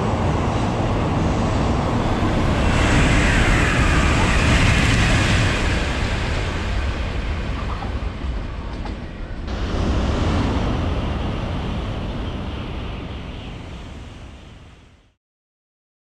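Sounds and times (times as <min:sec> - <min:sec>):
high-speed train rushing past: 0:00.0 - 0:15.2.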